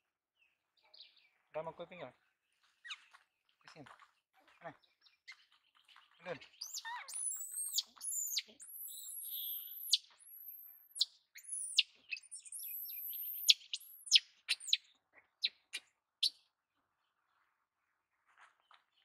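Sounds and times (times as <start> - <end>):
small birds chirping: 0.4 - 19.0.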